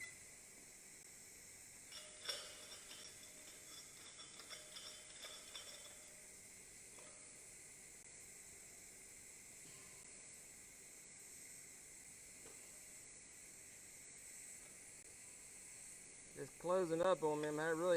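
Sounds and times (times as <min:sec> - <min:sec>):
welding arc hiss: 0:00.0 - 0:17.9.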